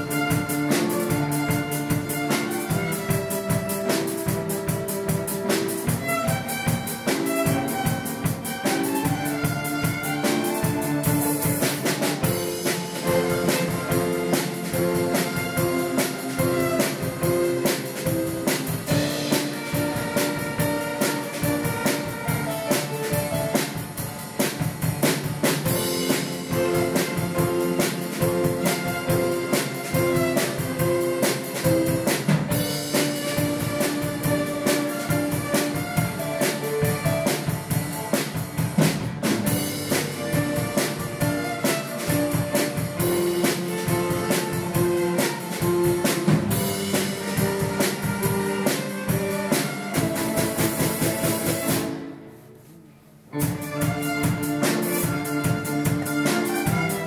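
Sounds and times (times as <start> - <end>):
string orchestra playing: 0.0 - 52.6, 53.2 - 57.0
steady drum beat: 0.0 - 57.0.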